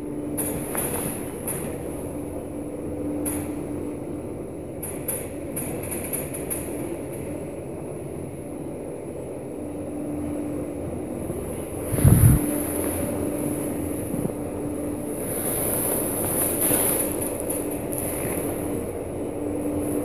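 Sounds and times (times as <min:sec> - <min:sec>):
lift mechanical hum: 0:00.0 - 0:20.0.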